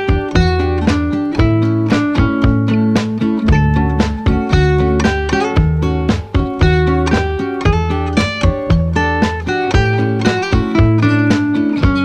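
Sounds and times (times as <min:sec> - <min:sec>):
bass line: 0:00.0 - 0:12.0
plucked guitar notes: 0:00.0 - 0:12.0.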